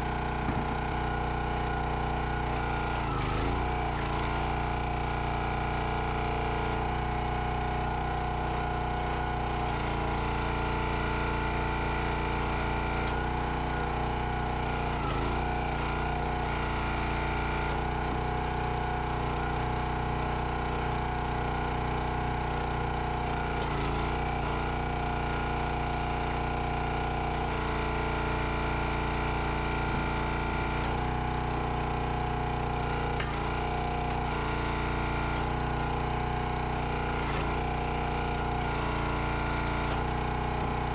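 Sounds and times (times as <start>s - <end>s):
log splitter gas engine running: 0.0s - 40.9s.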